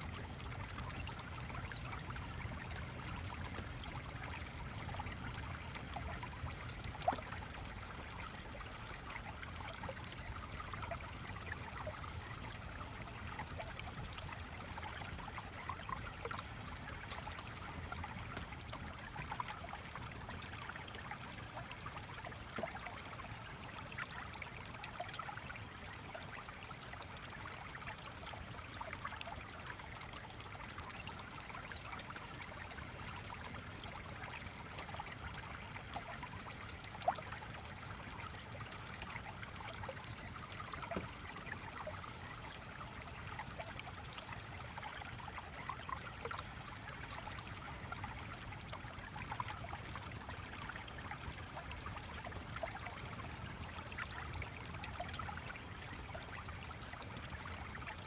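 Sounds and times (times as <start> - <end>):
small stream trickling: 0.0 - 58.0.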